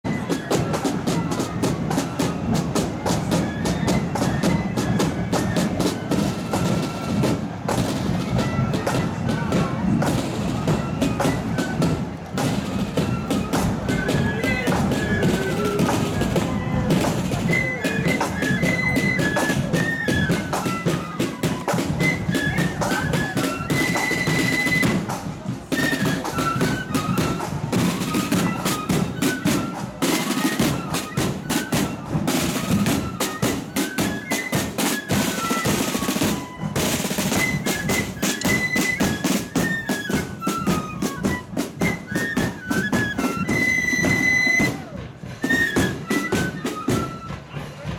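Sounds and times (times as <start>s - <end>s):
flutes playing melody: 0.0s - 47.9s
snare drums: 0.0s - 47.9s.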